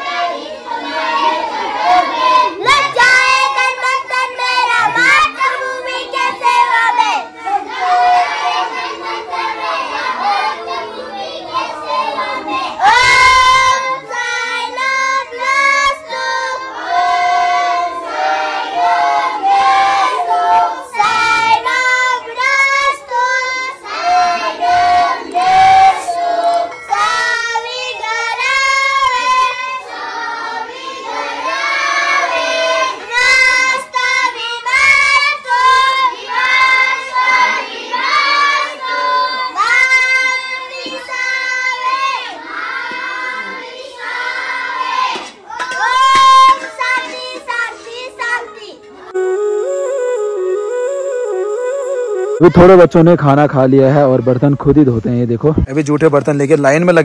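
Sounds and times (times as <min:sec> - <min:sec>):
children singing together: 0:00.0 - 0:51.5.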